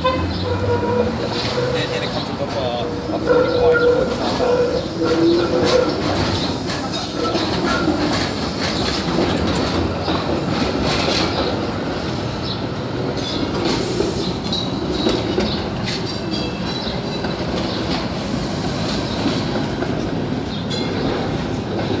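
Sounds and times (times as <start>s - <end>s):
streetcar wheels clacking on rails: 0.0s - 22.0s
streetcar wheels squealing: 0.0s - 22.0s.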